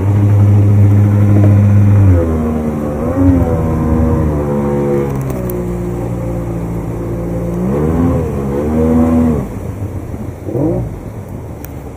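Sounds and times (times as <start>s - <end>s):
outboard motor revving: 0.0s - 11.9s.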